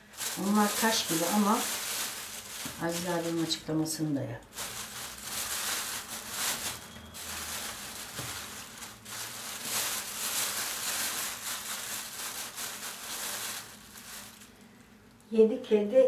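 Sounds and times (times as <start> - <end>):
plastic bag rustling: 0.0 - 15.2.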